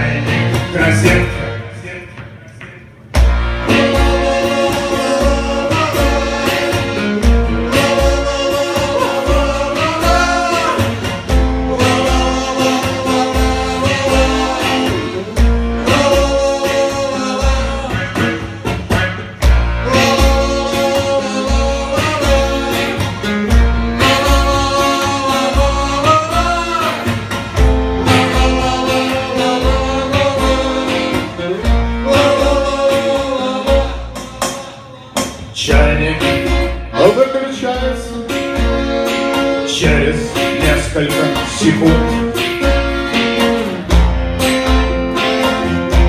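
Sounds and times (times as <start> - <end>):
plucked guitar: 0.0 - 46.0
person singing: 3.7 - 23.1, 24.0 - 27.2, 27.9 - 42.7.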